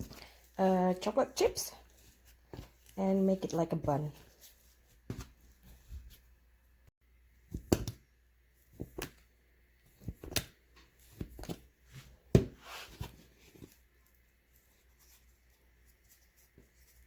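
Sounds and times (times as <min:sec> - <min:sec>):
hands kneading dough: 0:00.0 - 0:06.4, 0:07.4 - 0:17.0.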